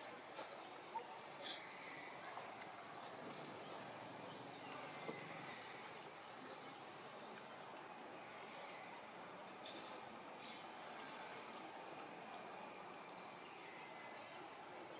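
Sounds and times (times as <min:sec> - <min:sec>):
insects droning: 0:00.0 - 0:14.9
soft outdoor hiss: 0:00.0 - 0:14.9.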